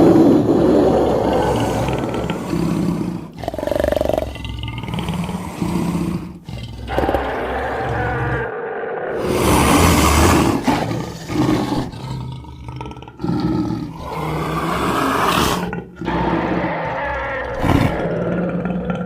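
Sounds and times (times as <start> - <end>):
big cat roars and growls: 0.0 - 19.0.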